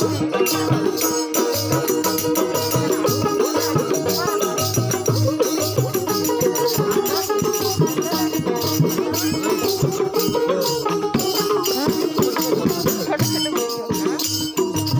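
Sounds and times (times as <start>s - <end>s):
shaken rattle percussion: 0.0s - 14.9s
wavering folk melody: 0.0s - 14.9s.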